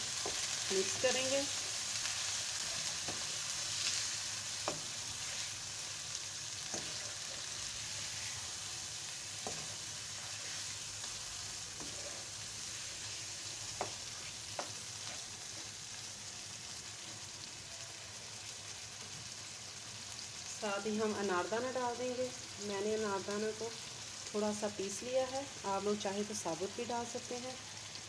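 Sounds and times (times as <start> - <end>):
food sizzling in oil: 0.0 - 28.0.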